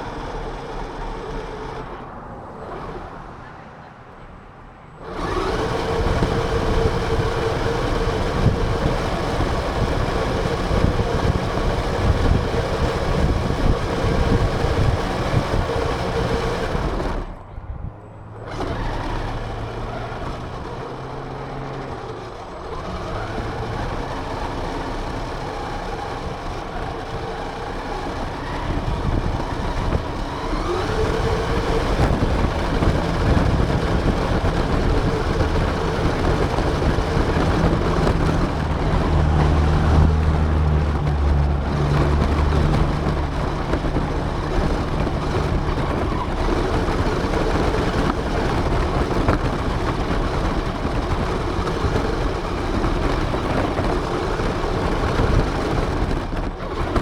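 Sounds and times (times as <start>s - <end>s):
toy car motor whine: 0.0s - 3.3s, 5.0s - 17.4s, 18.4s - 41.1s, 41.8s - 57.0s
rough rumble of wheels on ground: 0.0s - 57.0s.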